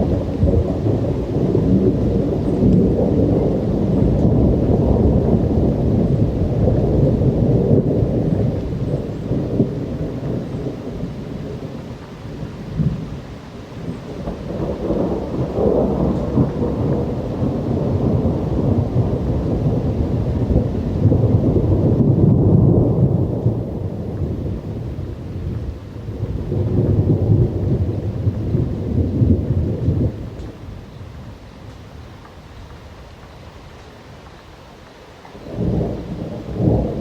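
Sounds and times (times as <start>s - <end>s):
thunder rumbling: 0.0s - 34.2s, 35.1s - 37.0s
steady rain: 0.0s - 37.0s.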